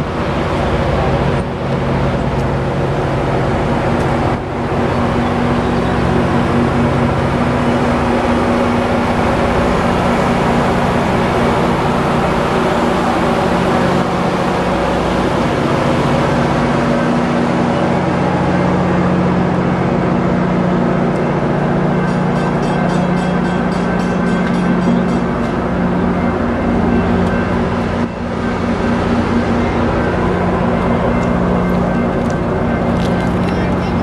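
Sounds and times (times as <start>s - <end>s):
diesel locomotive engine humming: 0.0s - 34.0s.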